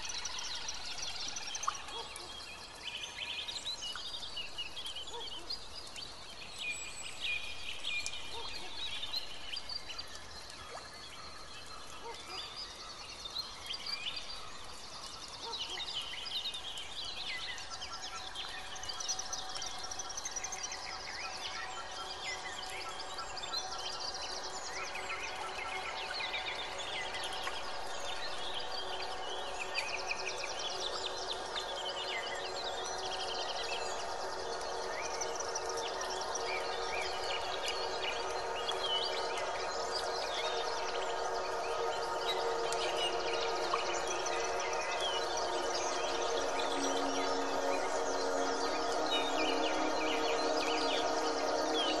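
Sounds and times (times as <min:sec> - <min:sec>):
faint steady hiss: 0:00.0 - 0:52.0.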